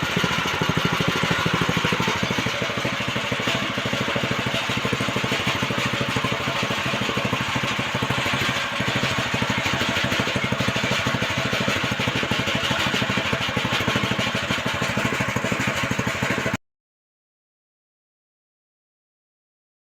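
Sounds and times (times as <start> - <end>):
small engine running: 0.0 - 16.6.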